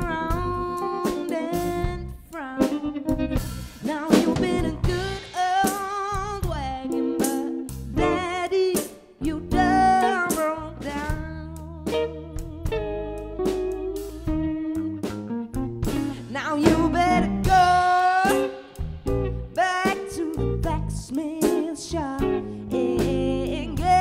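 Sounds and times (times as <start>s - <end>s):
live band playing: 0.0s - 24.0s.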